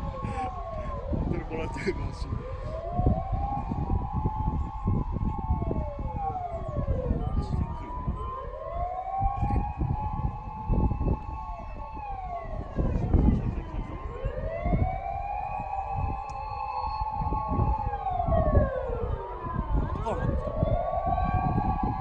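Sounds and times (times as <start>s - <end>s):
emergency sirens wailing: 0.0s - 22.0s
steady siren tone: 0.0s - 22.0s
wind buffeting microphone: 0.0s - 22.0s.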